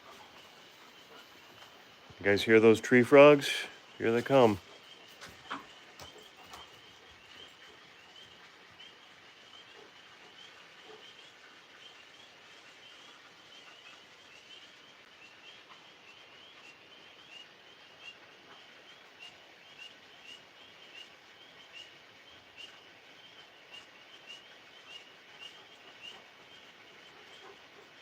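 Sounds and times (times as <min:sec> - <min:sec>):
tree frogs chirping: 0:00.0 - 0:28.0.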